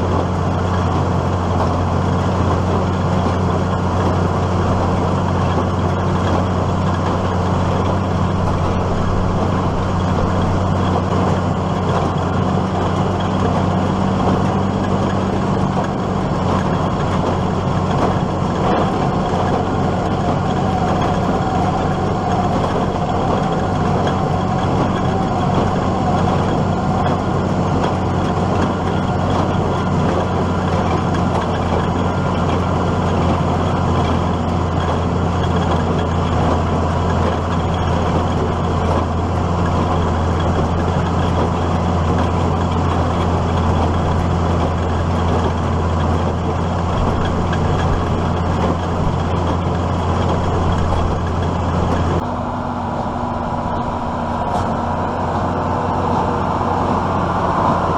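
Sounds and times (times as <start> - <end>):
tractor pulling baler drone: 0.0 - 57.9.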